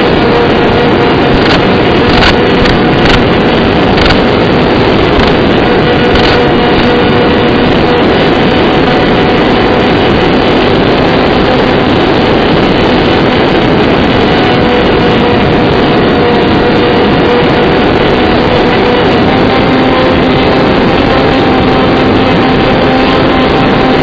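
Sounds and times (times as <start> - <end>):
electric motor whine: 0.0 - 24.0
wind rush: 0.0 - 24.0.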